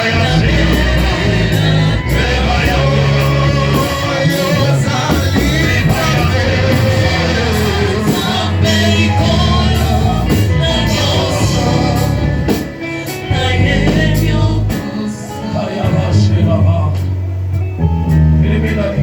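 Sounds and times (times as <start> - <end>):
voices singing: 0.0 - 17.4, 18.1 - 19.0
band playing worship music: 0.0 - 19.0.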